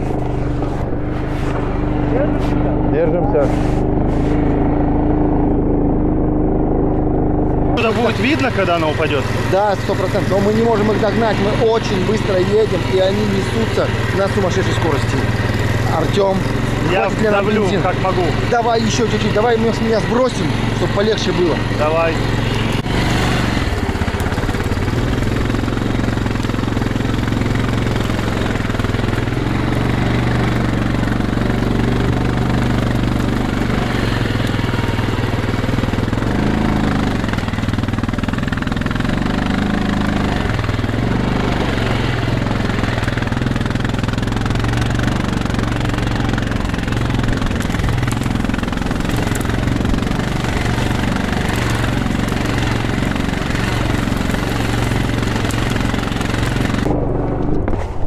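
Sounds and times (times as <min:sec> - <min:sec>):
small vehicle engine running hard: 0:00.0 - 0:58.0.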